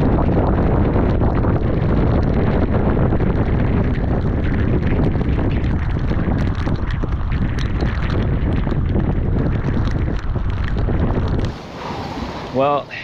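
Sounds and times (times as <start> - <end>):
heavy rain on water and kayak: 0.0 - 13.0
storm wind gusting on microphone: 0.0 - 13.0.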